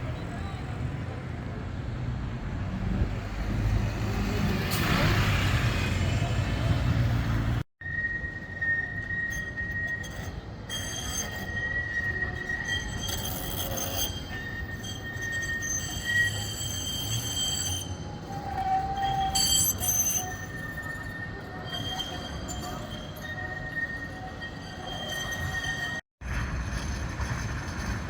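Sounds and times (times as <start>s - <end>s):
tram wheels squealing on rails: 0.0s - 28.0s.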